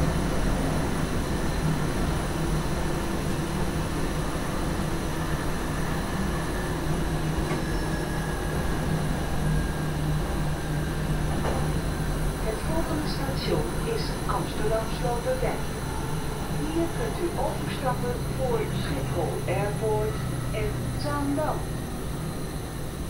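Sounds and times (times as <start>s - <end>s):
electric train hum: 0.0s - 23.0s.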